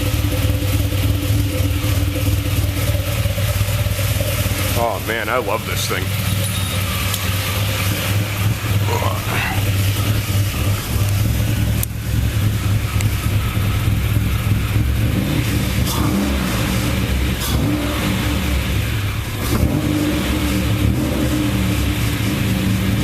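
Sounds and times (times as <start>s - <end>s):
car engine throttle blips: 0.0s - 23.0s.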